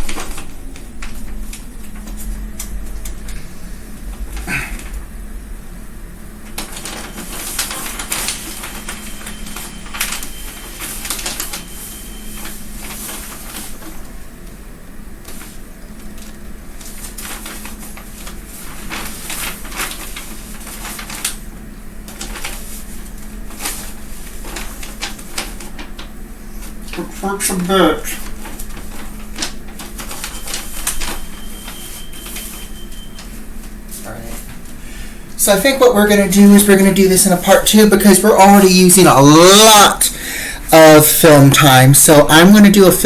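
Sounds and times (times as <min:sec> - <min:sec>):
paper and fabric rustling: 0:00.0 - 0:02.9, 0:06.5 - 0:14.6, 0:15.2 - 0:40.0
low electrical hum: 0:00.0 - 0:43.0.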